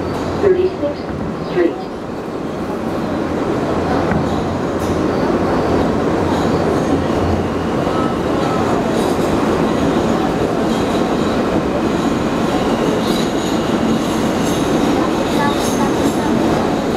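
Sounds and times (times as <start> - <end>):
subway wheels rumbling on rails: 0.0 - 16.9.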